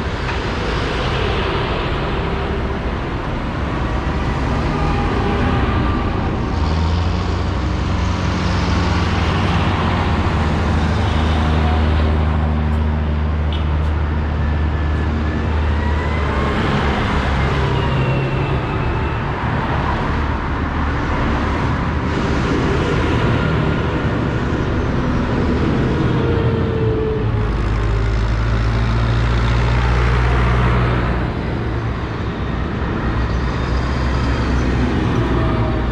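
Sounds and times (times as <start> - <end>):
tractor diesel engines driving past: 0.0 - 35.9.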